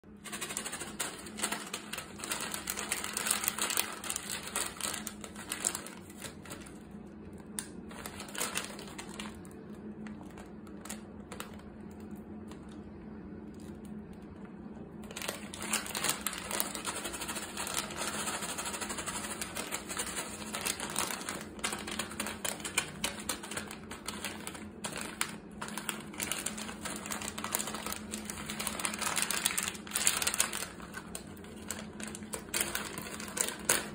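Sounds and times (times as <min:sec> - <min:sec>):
low steady hum: 0:00.0 - 0:33.9
plastic snack bag crinkling: 0:00.1 - 0:33.9.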